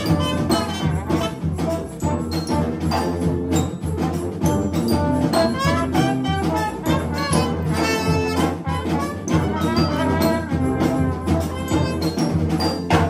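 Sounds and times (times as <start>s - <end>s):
brass band playing: 0.0s - 13.0s
trumpet: 0.0s - 13.0s.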